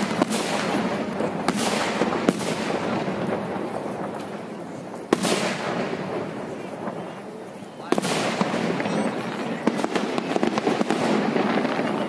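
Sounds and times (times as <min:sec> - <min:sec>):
firework pops and crackles: 0:00.0 - 0:12.0.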